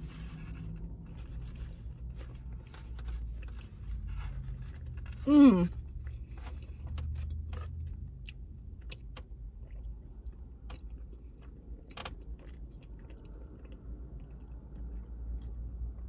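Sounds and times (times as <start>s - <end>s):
person chewing food: 0.0s - 16.0s
steady low hum: 0.0s - 16.0s.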